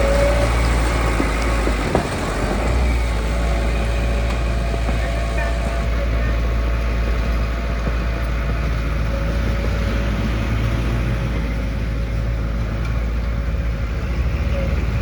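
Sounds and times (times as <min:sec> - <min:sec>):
heavy diesel machinery rumbling: 0:00.0 - 0:15.0.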